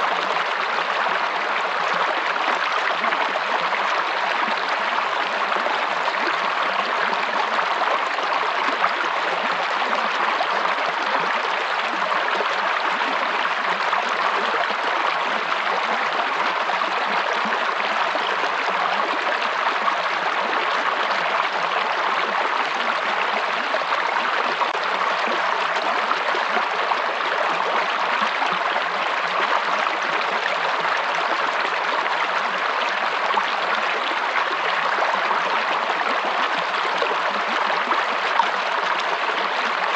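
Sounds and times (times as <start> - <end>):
stream water babbling over rocks: 0.0 - 39.9.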